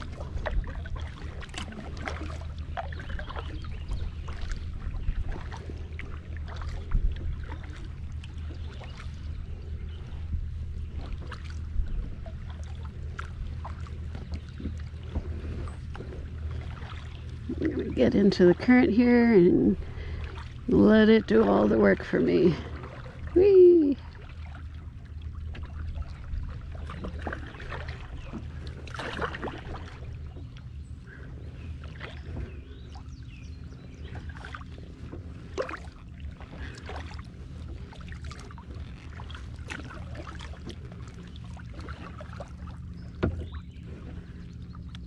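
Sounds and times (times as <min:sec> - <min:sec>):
steady low rumble: 0:00.0 - 0:45.0
water lapping around kayak: 0:00.0 - 0:45.0.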